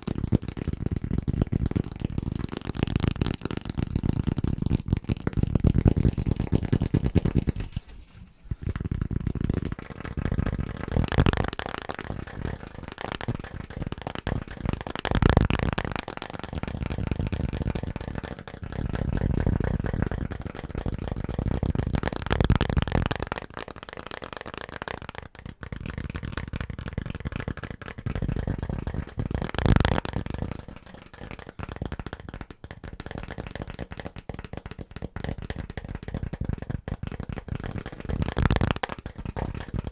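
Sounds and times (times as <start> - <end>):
fast tapping on household objects: 0.0 - 39.9.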